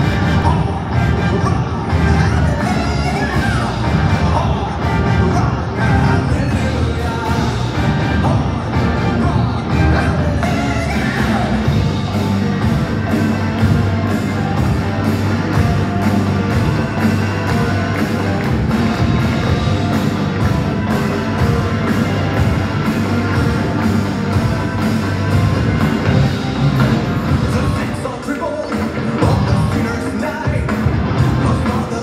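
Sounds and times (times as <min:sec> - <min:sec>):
driving drum beat: 0:00.0 - 0:32.0
live hard rock band: 0:00.0 - 0:32.0.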